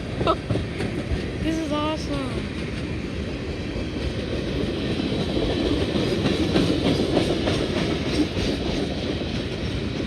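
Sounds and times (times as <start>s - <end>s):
freight train wheels clicking on rails: 0.0s - 10.0s.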